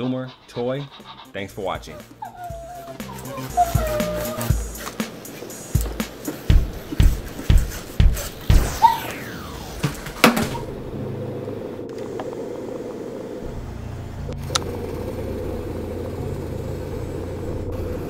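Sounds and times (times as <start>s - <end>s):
low mechanical hum: 2.5s - 18.0s.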